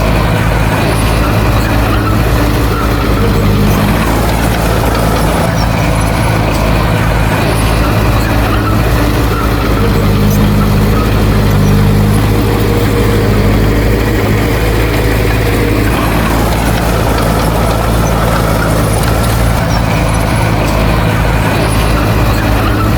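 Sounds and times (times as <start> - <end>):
heavy diesel engine droning: 0.0 - 22.9.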